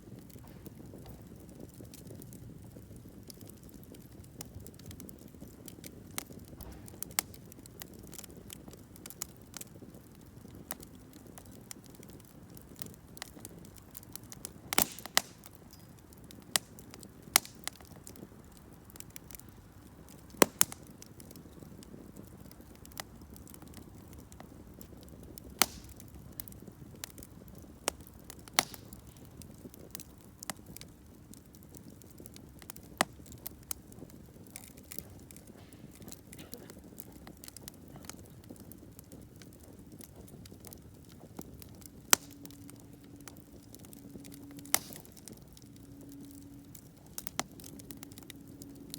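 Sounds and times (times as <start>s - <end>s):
burning wood pops and snaps: 0.0s - 48.9s
campfire crackling: 0.0s - 48.9s.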